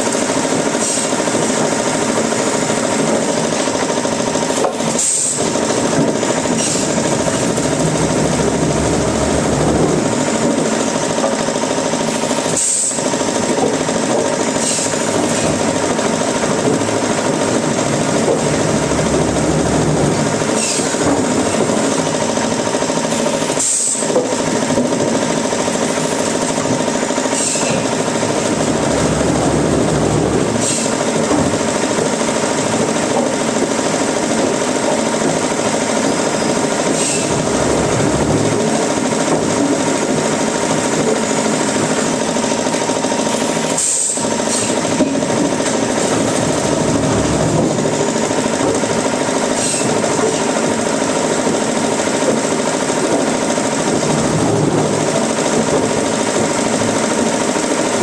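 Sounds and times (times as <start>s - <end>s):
woodworking machinery running: 0.0s - 58.0s.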